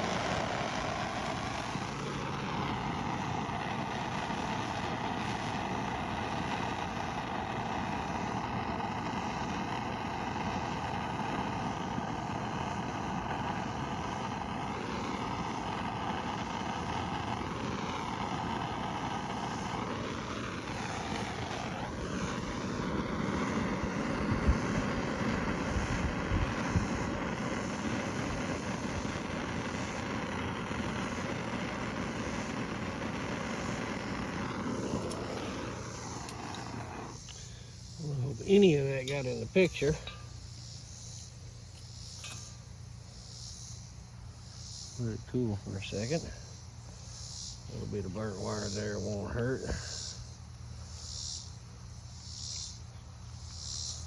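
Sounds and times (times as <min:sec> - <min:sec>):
gas torch hissing: 0:00.0 - 0:54.0.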